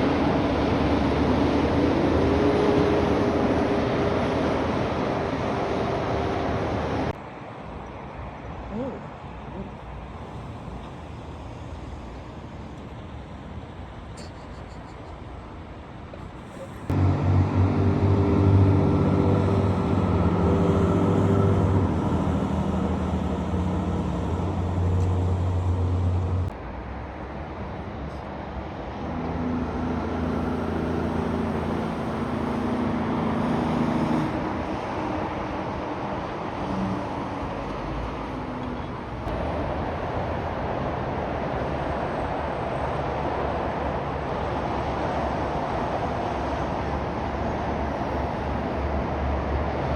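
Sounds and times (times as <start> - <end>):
traffic road noise: 0.0 - 49.9
truck diesel engines passing: 0.0 - 49.9.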